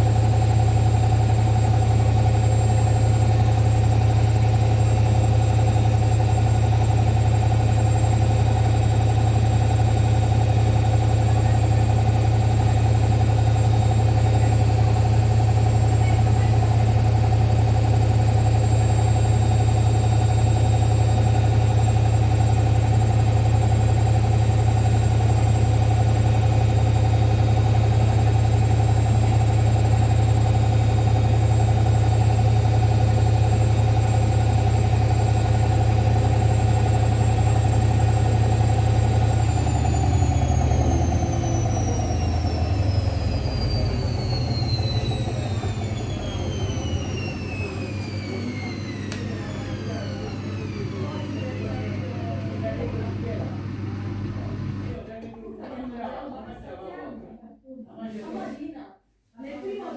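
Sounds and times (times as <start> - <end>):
washing machine spin cycle hum: 0.0 - 57.3.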